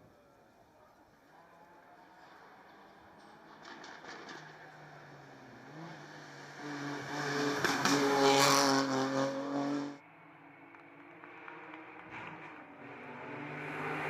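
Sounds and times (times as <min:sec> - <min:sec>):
race car engine at full throttle: 0:01.4 - 0:14.0.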